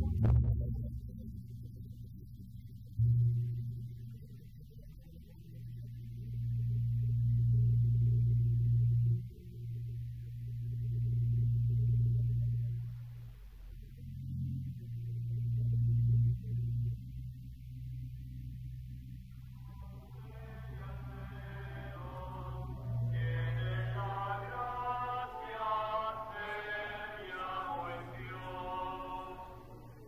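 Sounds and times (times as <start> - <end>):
low droning film score: 0.0 - 30.0.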